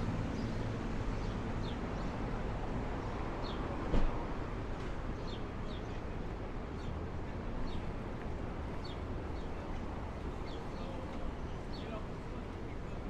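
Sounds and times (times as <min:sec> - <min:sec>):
city street traffic hum: 0:00.0 - 0:13.0.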